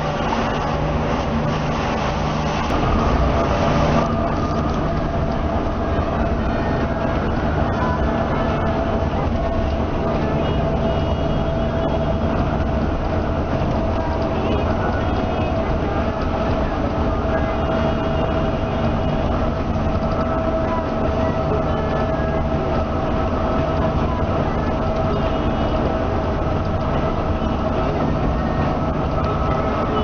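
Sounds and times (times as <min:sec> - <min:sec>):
bus engine and road rumble: 0:00.0 - 0:30.0
constant hum: 0:00.0 - 0:30.0.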